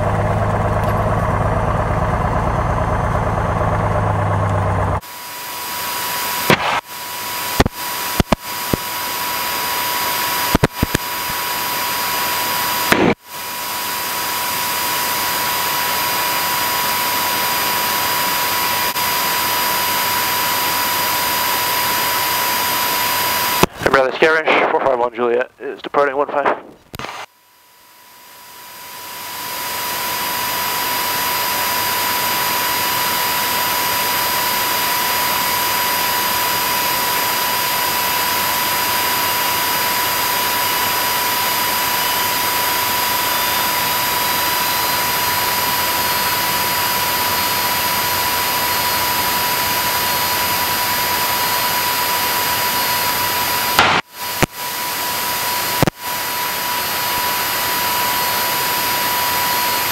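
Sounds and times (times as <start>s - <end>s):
propeller airplane engine drone: 0.0s - 59.9s.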